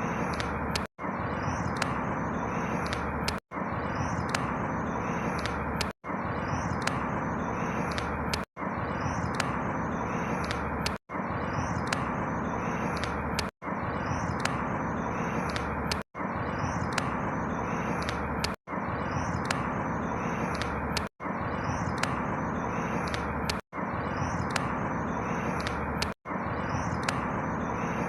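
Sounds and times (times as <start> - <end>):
steady rushing background noise: 0.0 - 28.0.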